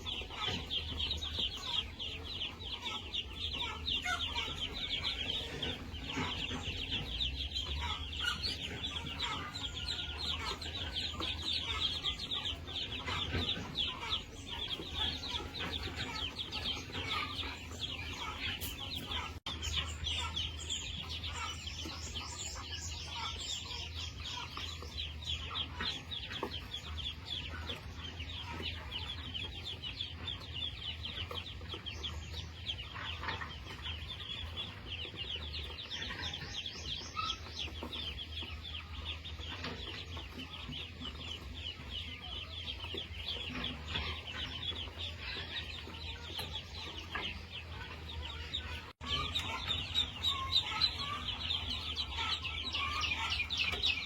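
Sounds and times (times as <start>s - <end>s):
chickens calling: 0.0s - 54.0s.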